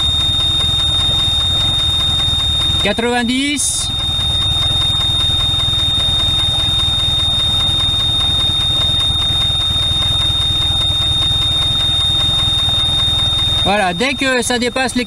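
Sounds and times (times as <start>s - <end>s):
high-pitched warning buzzer: 0.0s - 15.0s
outboard engine idling: 0.0s - 15.0s.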